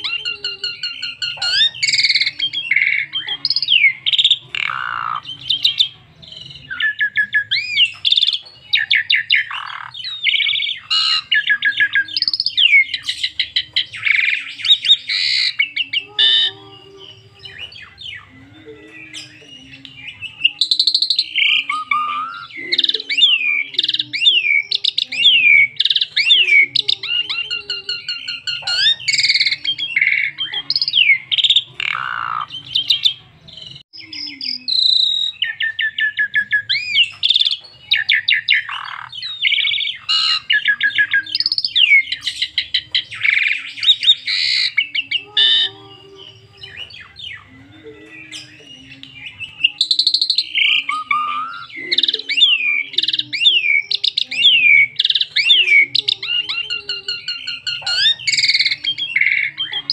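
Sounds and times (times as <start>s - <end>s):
bird singing varied chirps: 0.0s - 59.9s.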